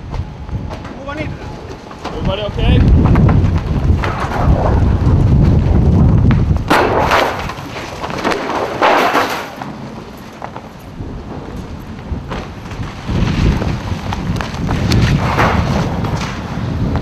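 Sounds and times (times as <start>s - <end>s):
hissing rushes of wind: 0.0s - 8.2s, 9.6s - 17.0s
wind buffeting microphone: 0.0s - 9.0s, 9.6s - 17.0s.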